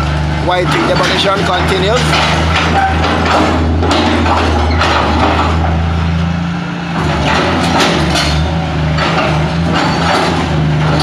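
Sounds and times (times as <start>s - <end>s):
excavator diesel engine running: 0.0s - 11.0s
debris knocking and crunching: 0.6s - 5.9s, 7.0s - 11.0s.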